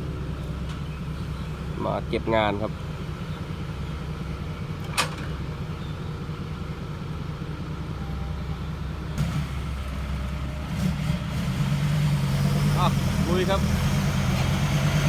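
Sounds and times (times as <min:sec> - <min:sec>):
dump truck engine running: 0:00.0 - 0:15.0.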